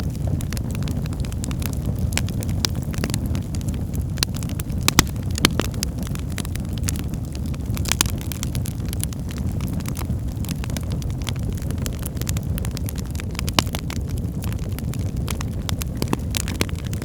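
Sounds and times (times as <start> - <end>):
low roar of flames: 0.0 - 17.0
wood fire crackling and popping: 0.0 - 17.0.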